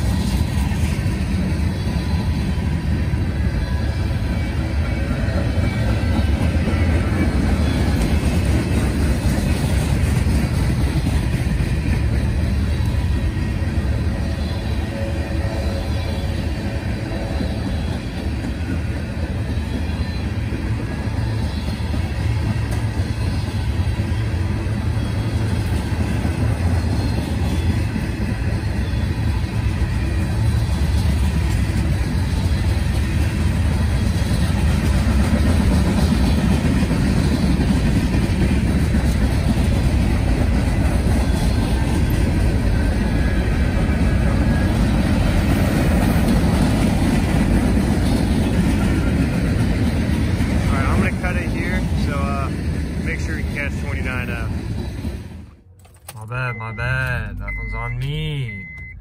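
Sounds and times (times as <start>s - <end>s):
train wheels rumbling on rail: 0.0s - 56.4s.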